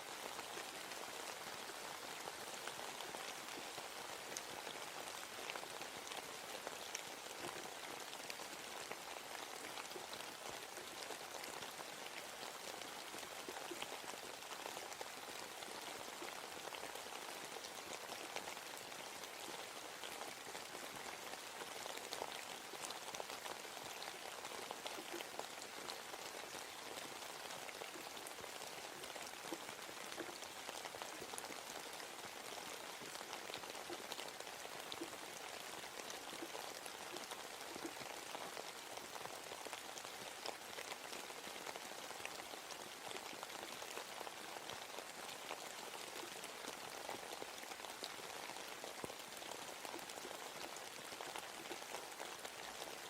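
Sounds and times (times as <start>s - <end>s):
rain pattering on leaves: 0.0s - 53.0s.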